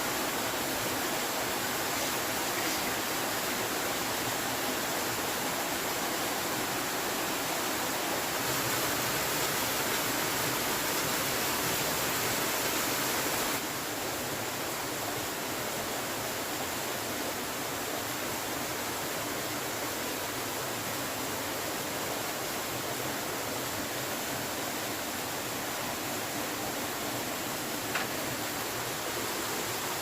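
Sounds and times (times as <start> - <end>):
water rushing hiss: 0.0 - 30.0.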